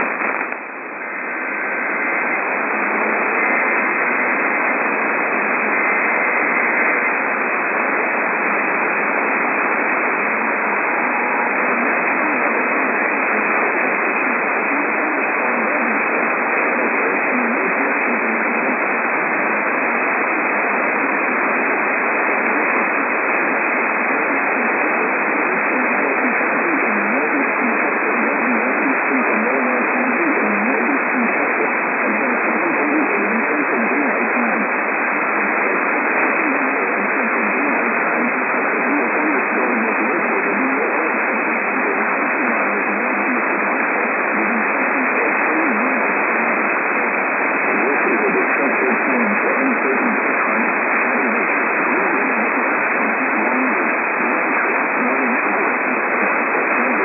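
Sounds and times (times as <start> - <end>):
radio static hiss: 0.0 - 57.0.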